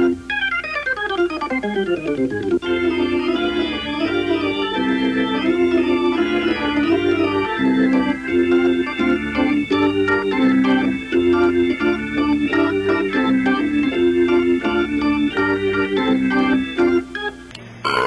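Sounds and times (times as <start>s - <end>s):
organ music: 0.0s - 18.0s.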